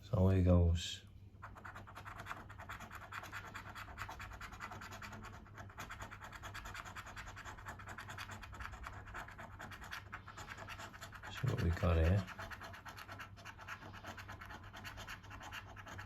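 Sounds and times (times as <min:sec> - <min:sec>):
scratch card being scraped: 0:01.4 - 0:16.0.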